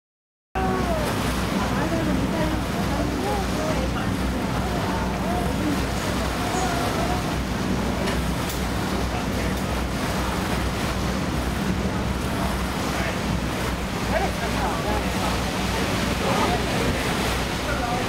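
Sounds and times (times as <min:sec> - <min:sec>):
boat engine humming: 0:00.6 - 0:18.0
water wash: 0:00.6 - 0:18.0.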